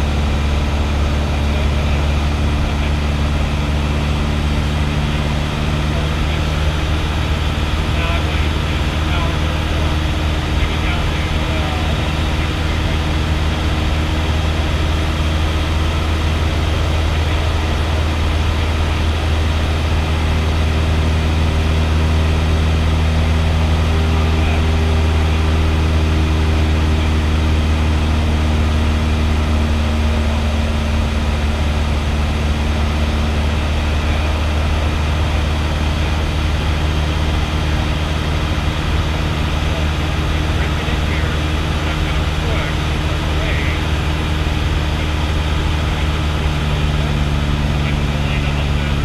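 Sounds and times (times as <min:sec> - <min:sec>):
light airplane engine droning: 0:00.0 - 0:49.0.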